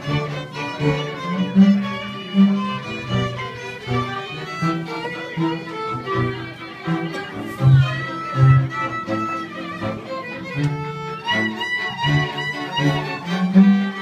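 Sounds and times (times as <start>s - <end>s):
cello bowed low notes: 0.0s - 14.0s
fiddles playing melody: 0.0s - 14.0s.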